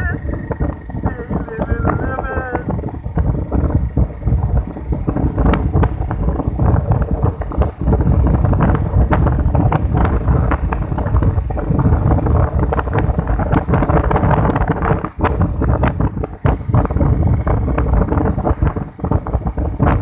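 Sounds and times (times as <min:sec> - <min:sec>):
knocks and rattles: 0:00.0 - 0:20.0
wind buffeting microphone: 0:00.0 - 0:20.0.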